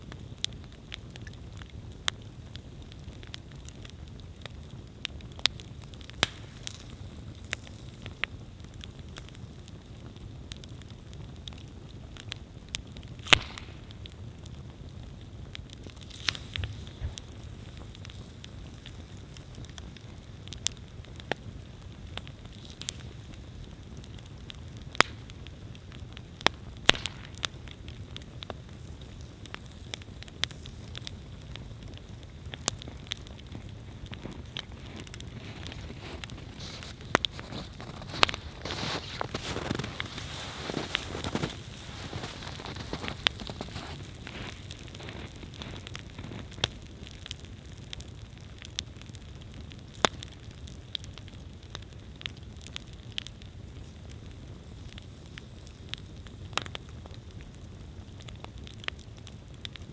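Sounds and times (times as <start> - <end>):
campfire burning with crackles: 0.0 - 59.9.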